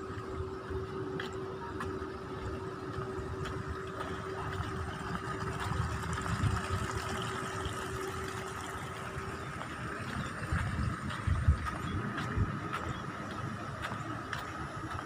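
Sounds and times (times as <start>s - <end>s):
low uneven rumble: 0.0s - 15.0s
mechanical hum: 0.0s - 15.0s.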